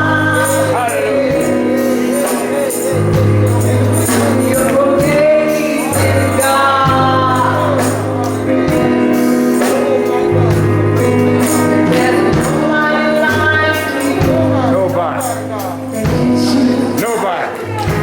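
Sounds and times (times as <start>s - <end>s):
bass: 0.0s - 18.0s
organ chords: 0.0s - 18.0s
person singing: 0.0s - 18.0s.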